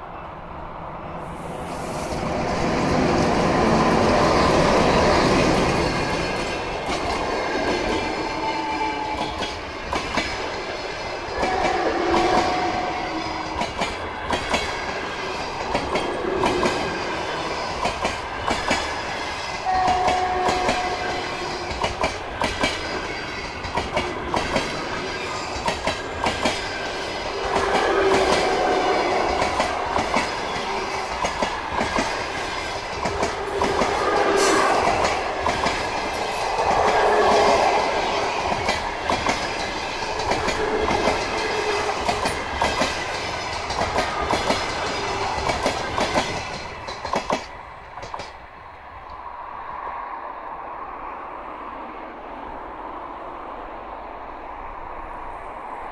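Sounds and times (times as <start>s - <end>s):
electric locomotive passing: 0.0s - 55.9s
clickety-clack of train wheels: 1.9s - 49.2s.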